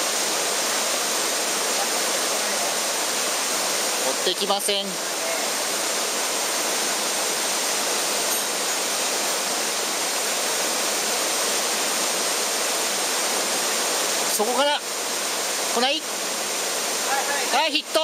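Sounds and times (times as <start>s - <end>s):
stream rushing over rapids: 0.0s - 18.0s.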